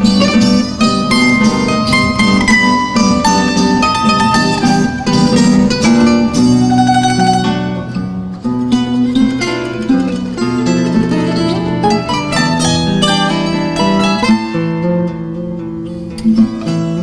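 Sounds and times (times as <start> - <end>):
plucked string trio playing: 0.0 - 17.0.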